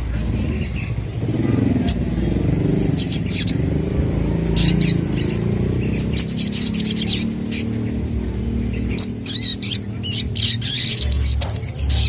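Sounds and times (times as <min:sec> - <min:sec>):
low engine-like rumble: 0:00.0 - 0:12.0
young songbird chirping: 0:00.4 - 0:03.8, 0:04.4 - 0:12.0.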